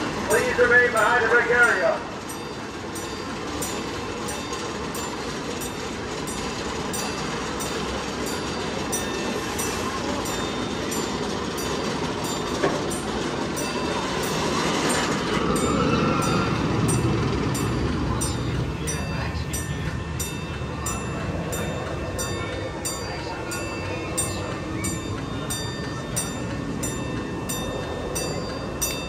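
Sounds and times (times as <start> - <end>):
railroad crossing bell dinging: 0.0 - 29.0
train rumble: 0.0 - 29.0.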